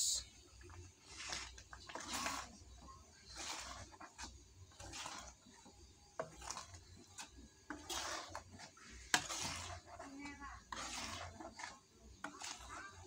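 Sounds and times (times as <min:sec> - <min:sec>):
spatula stirring paste in metal pan: 0:00.1 - 0:13.0.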